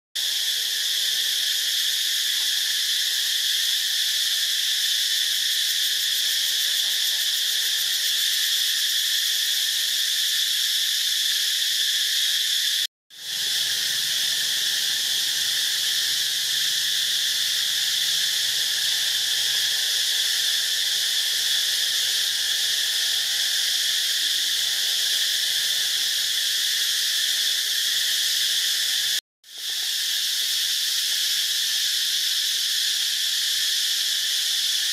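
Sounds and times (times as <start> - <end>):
insects droning: 0.2 - 34.9.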